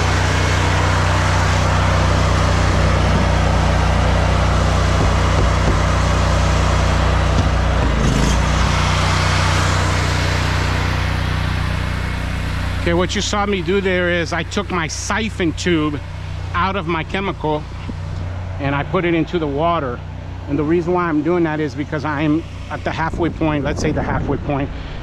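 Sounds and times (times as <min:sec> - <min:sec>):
pressure washer engine running: 0:00.0 - 0:25.0.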